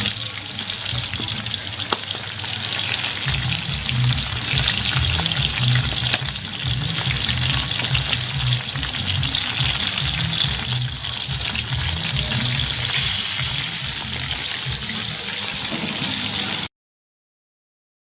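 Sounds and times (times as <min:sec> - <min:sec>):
food sizzling in hot oil: 0:00.0 - 0:16.7.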